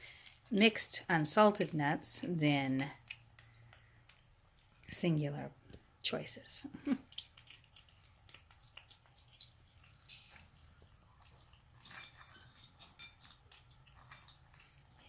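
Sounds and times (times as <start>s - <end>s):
monkey chewing food: 0.0s - 5.1s, 6.6s - 15.0s
low steady hum: 0.0s - 15.0s.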